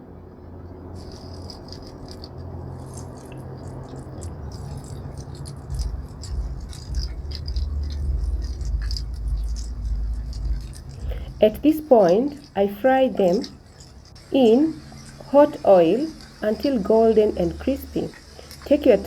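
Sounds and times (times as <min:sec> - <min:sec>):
hot oil bubbling and crackling: 0:00.8 - 0:19.0
low rumble: 0:02.4 - 0:18.4.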